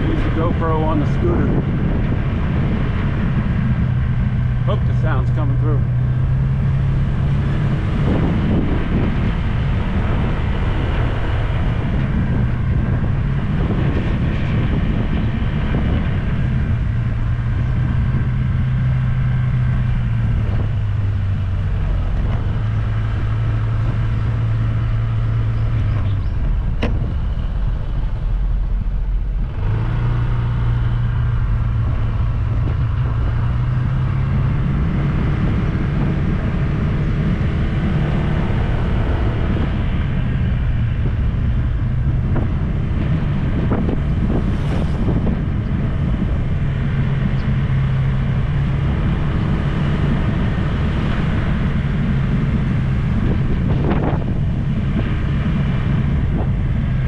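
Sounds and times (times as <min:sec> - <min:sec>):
wind and road noise: 0:00.0 - 0:57.0
scooter engine humming: 0:05.8 - 0:57.0.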